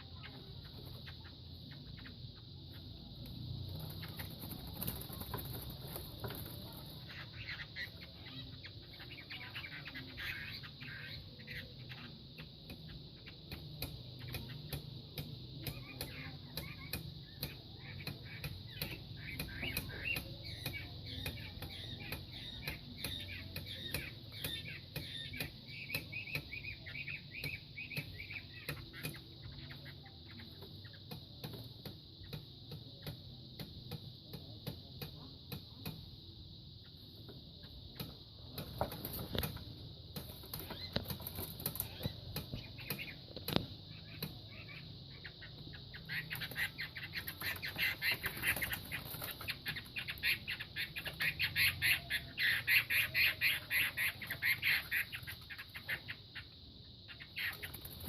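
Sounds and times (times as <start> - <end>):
bird chirps: 0.0 - 58.0.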